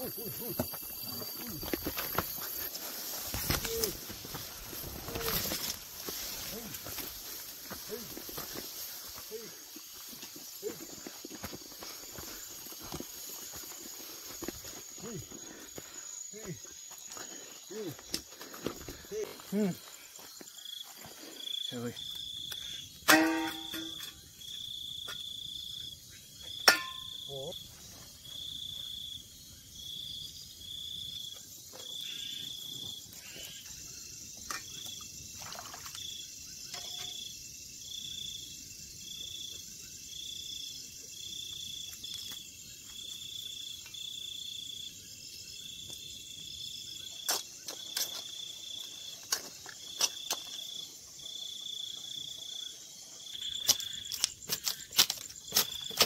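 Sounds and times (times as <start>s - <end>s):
high hiss of insects: 0.0s - 56.0s
insect chirping: 0.0s - 56.0s.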